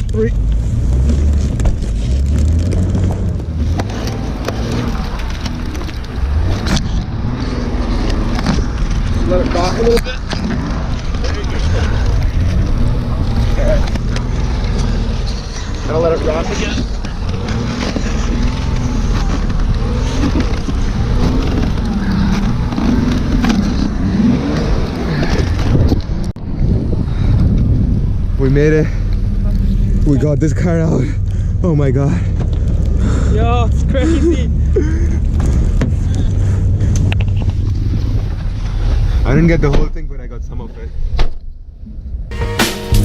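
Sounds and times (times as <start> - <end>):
car engine revving: 0.0 - 39.6
heavy low rumble: 0.0 - 43.0.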